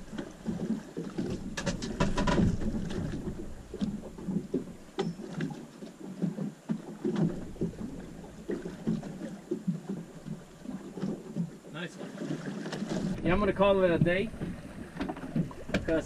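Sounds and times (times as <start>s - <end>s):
water slapping against boat hull: 0.0s - 16.0s.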